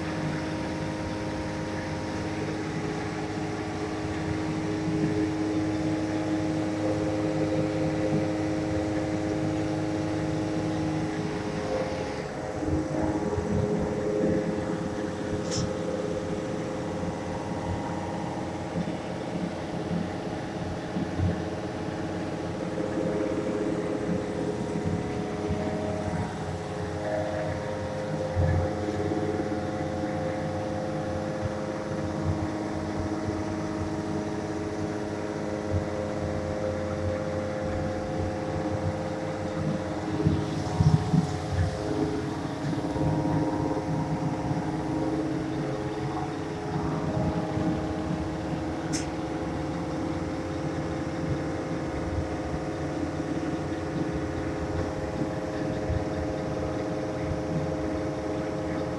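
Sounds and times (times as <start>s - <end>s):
steady mechanical hum: 0.0s - 58.9s.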